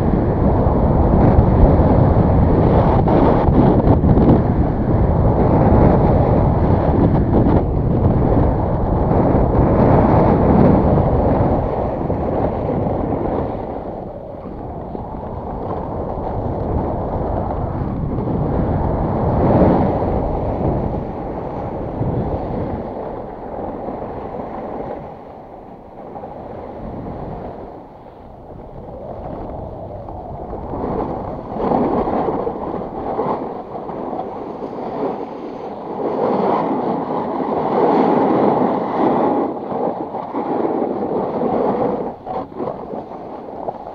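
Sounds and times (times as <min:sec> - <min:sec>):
wind rushing over microphone: 0:00.0 - 0:43.9
snowboard scraping on snow: 0:00.2 - 0:43.9.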